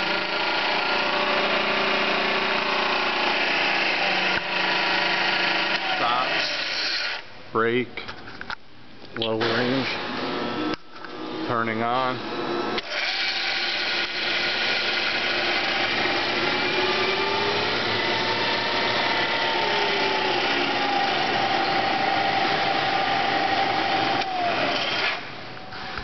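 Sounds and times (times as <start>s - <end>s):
milling machine whine: 0.0s - 7.2s, 9.4s - 26.0s.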